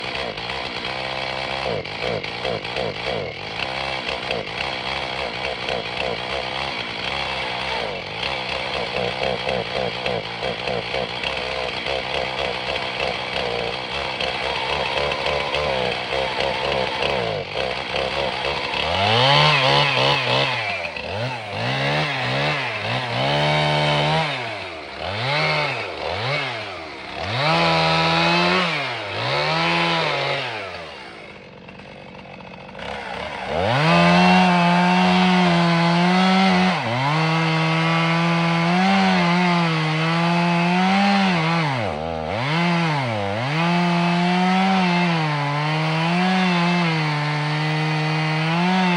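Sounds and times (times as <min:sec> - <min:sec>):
chainsaw cutting tree: 0:00.0 - 0:48.9
chainsaw revving: 0:00.0 - 0:48.9.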